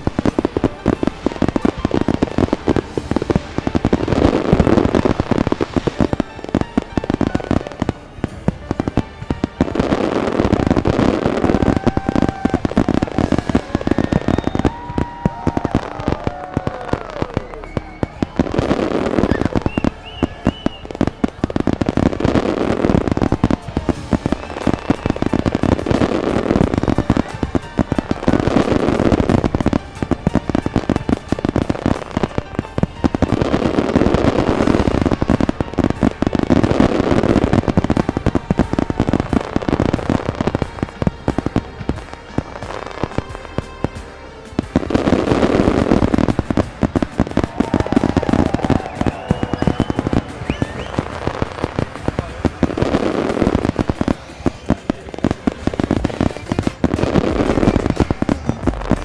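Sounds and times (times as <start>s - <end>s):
fireworks bangs and crackling: 0.0s - 59.0s
music playing: 0.0s - 59.0s.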